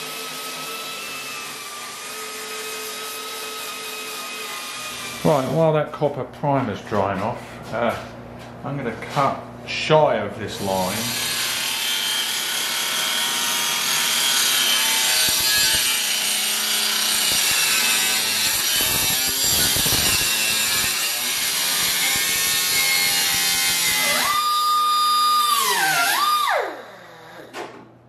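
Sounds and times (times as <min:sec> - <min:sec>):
angle grinder cutting metal: 0:00.0 - 0:05.6, 0:10.6 - 0:27.5.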